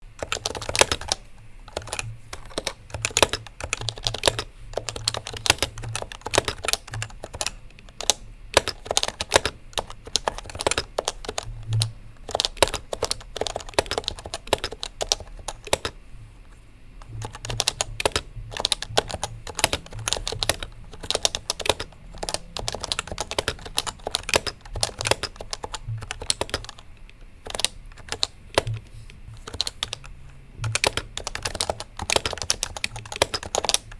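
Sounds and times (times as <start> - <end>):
keyboard typing: 0.1 - 16.0, 17.0 - 33.9.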